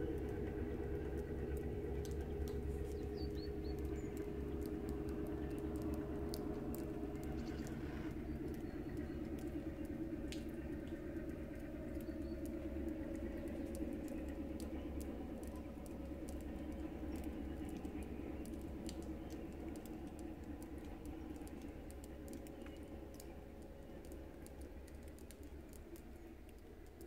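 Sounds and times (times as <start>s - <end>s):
faint clicks and ticks: 0.0s - 27.0s.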